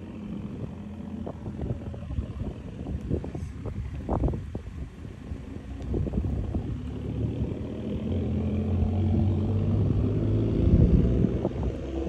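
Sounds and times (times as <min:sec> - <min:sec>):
car exhaust rumbling: 0:00.0 - 0:12.0.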